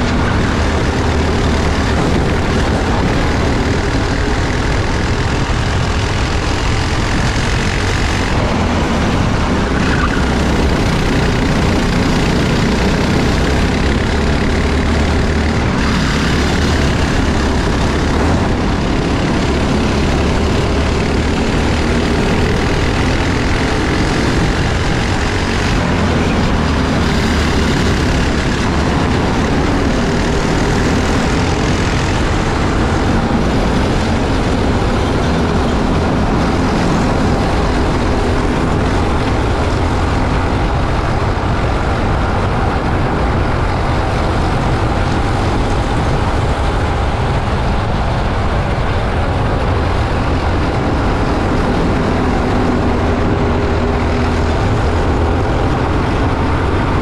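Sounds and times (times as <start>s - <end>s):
kart engine running hard: 0.0s - 57.0s
other kart engines: 0.0s - 57.0s.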